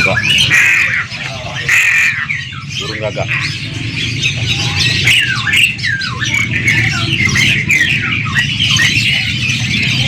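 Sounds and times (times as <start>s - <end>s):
caged birds chirping: 0.0s - 10.0s
low rumble of crowd and traffic: 0.0s - 10.0s.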